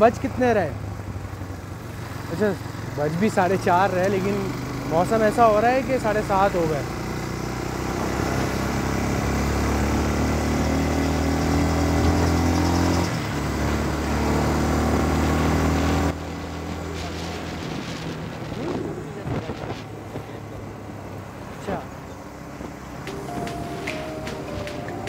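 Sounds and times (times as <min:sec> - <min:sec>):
motorcycle engine accelerating: 0:00.9 - 0:25.0.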